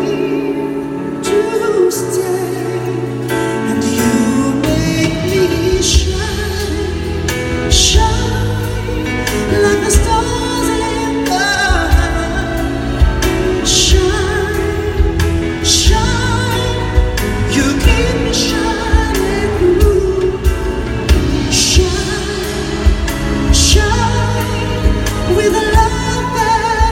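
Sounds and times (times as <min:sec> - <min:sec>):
drums: 0:00.0 - 0:26.9
solo voice singing ballad: 0:00.0 - 0:26.9.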